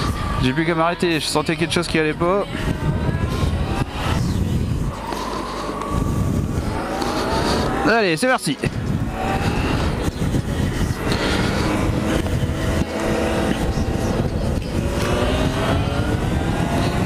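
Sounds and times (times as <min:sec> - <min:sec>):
wind rush: 0:00.0 - 0:00.6, 0:01.5 - 0:17.0
motorcycle engine accelerating: 0:02.0 - 0:17.0.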